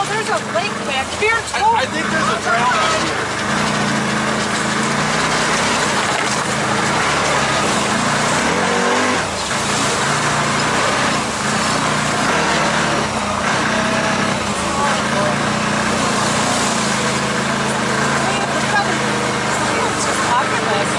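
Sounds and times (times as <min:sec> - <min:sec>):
off-road vehicle engine running: 0:00.0 - 0:20.9
tyre ground noise: 0:00.0 - 0:20.9.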